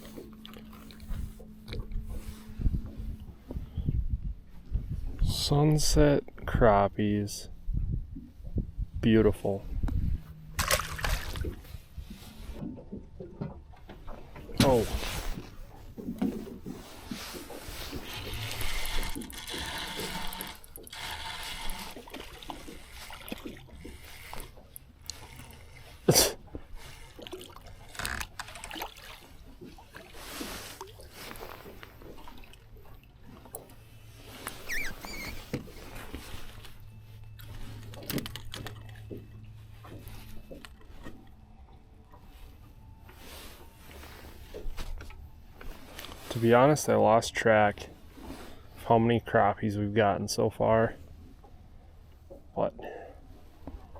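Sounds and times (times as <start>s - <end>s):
gear clicking and rustling in boat: 0.0s - 6.6s, 9.4s - 49.2s.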